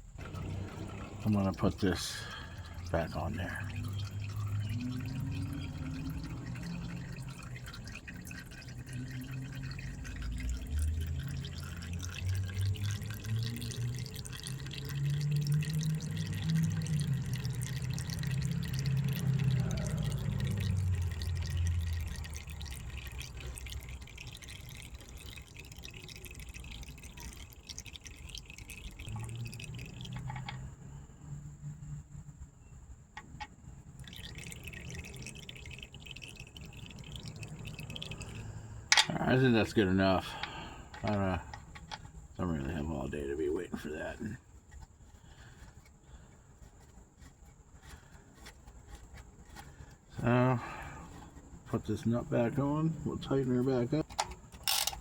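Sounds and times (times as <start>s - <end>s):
oil draining into a bucket: 0.0s - 31.0s, 33.2s - 55.0s.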